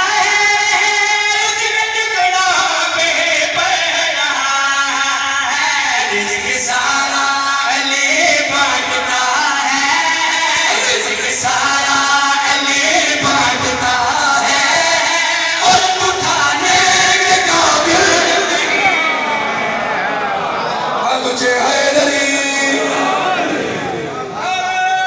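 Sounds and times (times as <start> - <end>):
man singing: 0.0 - 19.3, 21.0 - 23.4.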